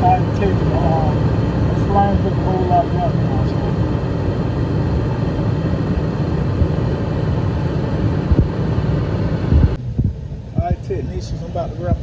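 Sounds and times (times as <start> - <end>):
low thumps: 0.0 - 10.8
gas furnace rumbling: 0.0 - 12.0.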